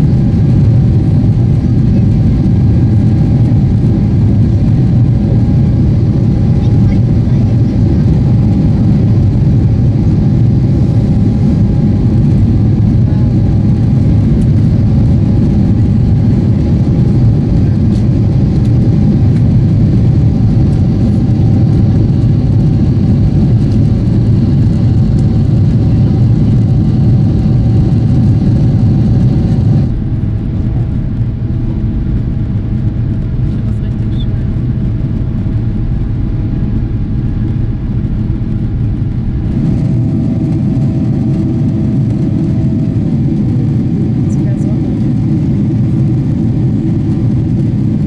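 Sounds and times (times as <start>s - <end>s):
jet engines roaring in cabin: 0.0s - 48.0s.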